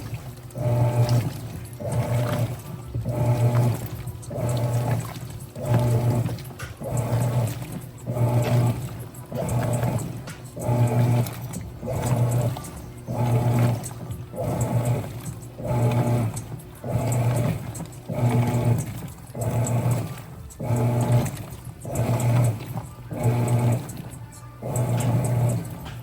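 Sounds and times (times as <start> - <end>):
washing machine motor humming: 0.0 - 26.0
water sloshing: 0.0 - 26.0.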